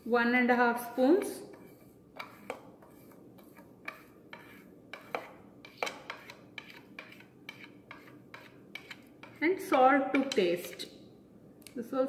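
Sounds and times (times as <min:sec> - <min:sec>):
plastic spoon scraping plastic plate: 0:01.0 - 0:11.0.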